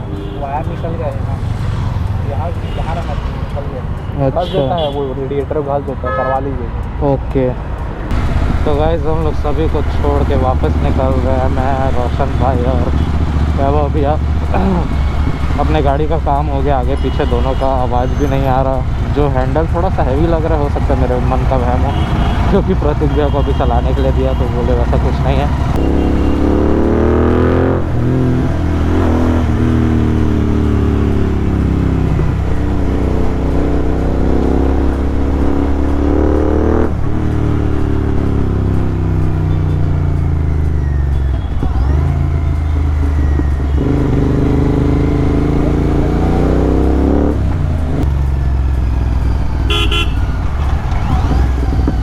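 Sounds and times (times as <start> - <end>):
motorcycle engine accelerating: 8.0 - 52.0.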